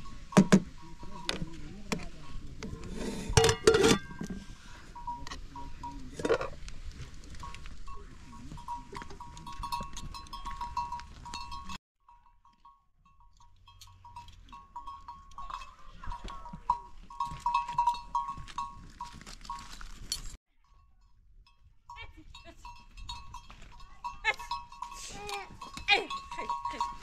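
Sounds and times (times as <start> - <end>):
livestock bells clinking: 0.0 - 27.0.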